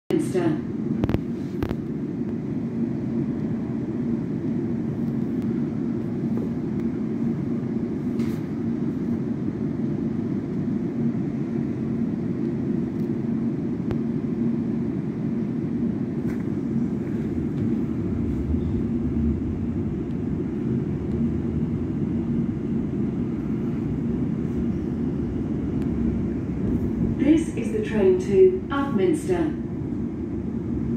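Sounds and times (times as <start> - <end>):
electric train hum: 0.1 - 30.9
train rumble: 0.1 - 30.9.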